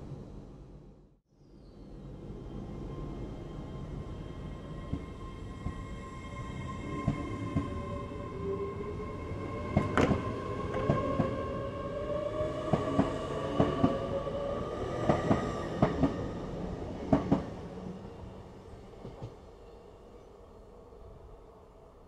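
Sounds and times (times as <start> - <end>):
electric train whine: 1.7 - 22.0.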